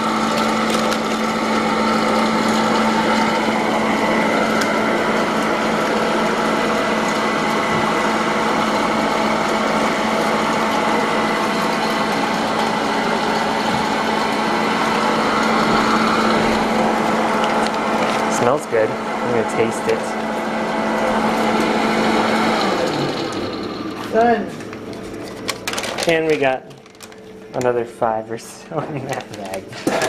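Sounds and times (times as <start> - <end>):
popcorn machine running: 0.0 - 30.0.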